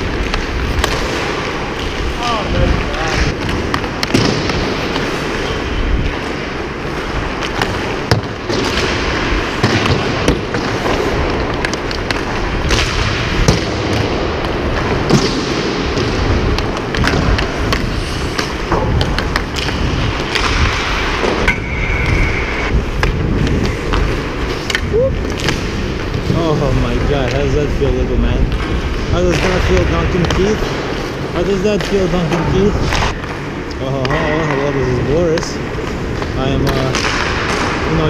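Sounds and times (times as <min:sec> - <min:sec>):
skates scraping on ice: 0:00.0 - 0:38.0.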